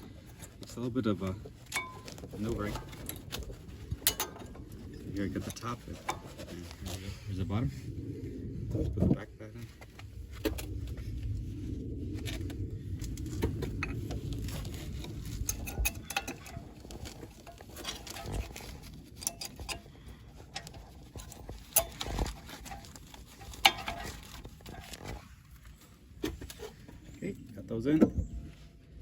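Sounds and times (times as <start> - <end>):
brake pad rubbing and scraping: 0.0 - 7.9, 9.7 - 27.3.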